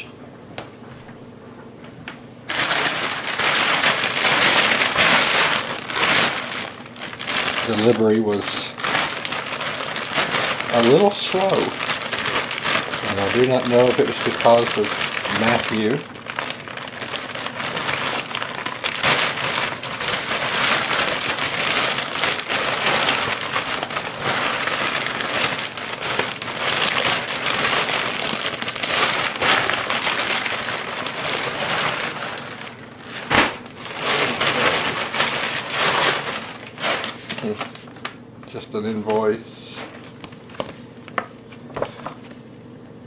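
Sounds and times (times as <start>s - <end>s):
plastic bag crinkling: 2.5s - 42.4s.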